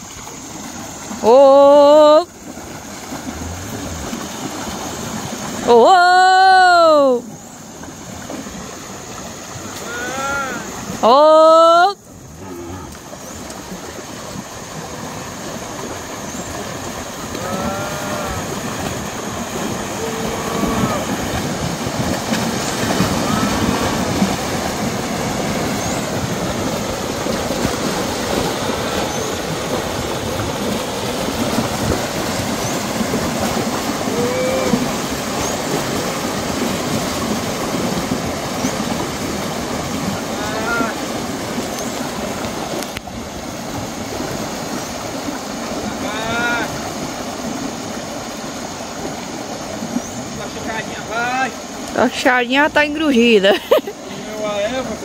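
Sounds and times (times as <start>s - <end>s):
cattle splashing through water: 0.0s - 55.0s.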